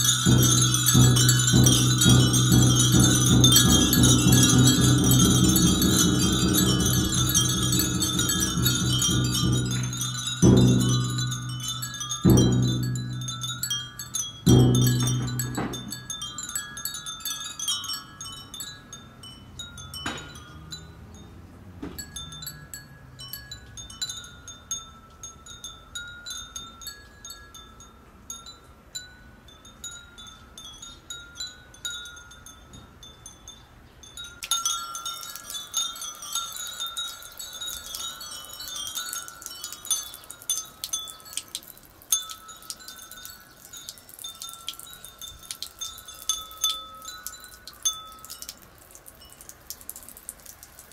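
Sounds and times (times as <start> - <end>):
glass wind chimes tinkling: 0.0 - 50.9.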